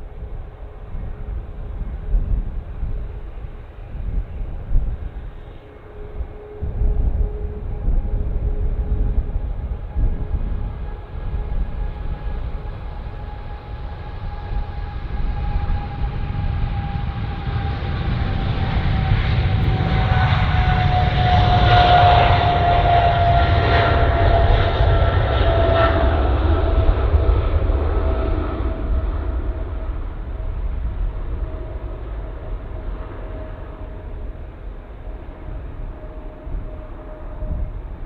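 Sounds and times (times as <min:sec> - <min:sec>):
jet airliner engines rumbling: 0:00.0 - 0:38.0.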